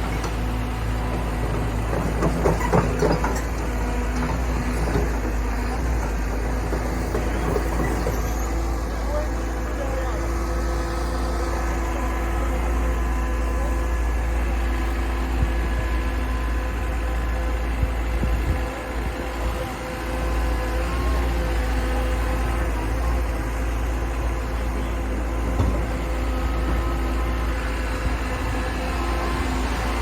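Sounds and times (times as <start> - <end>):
excavator engine rumbling: 0.0 - 30.0.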